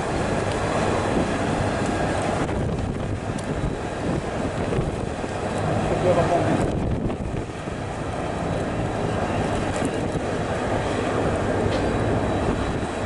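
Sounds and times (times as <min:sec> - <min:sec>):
engine drone: 0:00.0 - 0:13.0
rushing wind: 0:00.0 - 0:13.0.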